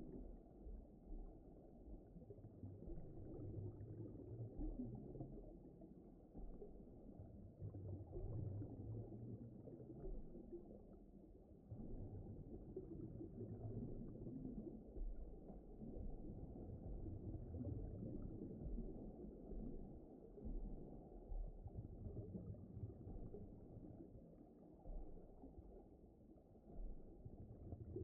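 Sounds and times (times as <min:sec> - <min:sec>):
muffled underwater rumble: 0:00.0 - 0:28.0.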